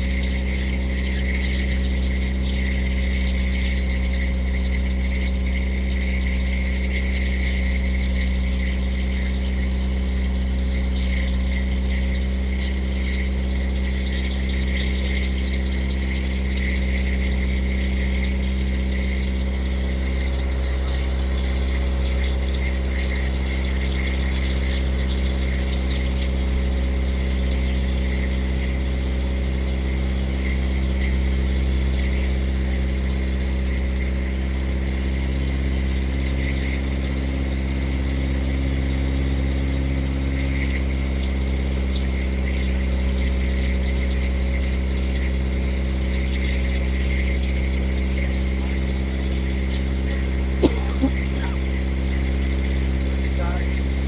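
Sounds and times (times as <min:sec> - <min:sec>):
motorboat engine drone: 0:00.0 - 0:54.0.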